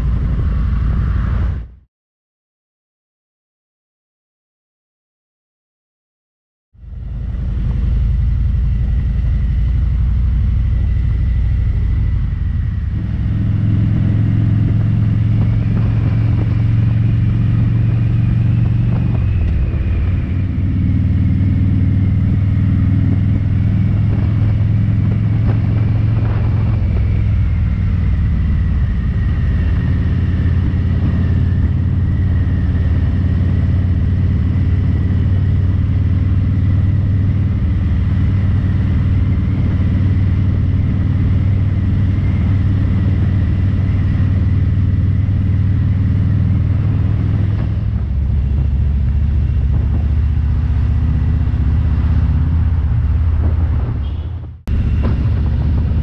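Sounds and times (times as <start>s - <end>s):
motorcycle engine running: 6.8s - 56.0s.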